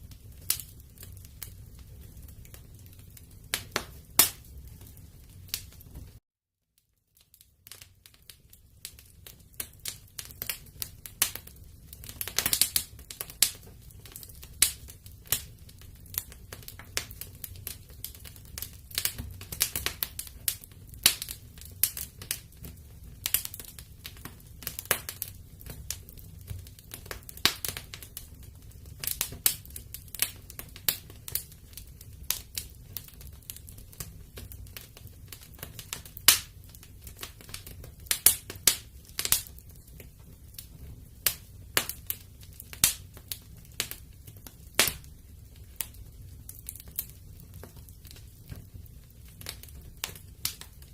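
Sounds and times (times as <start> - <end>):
wood fire crackling and popping: 0.0 - 6.2, 6.8 - 50.9.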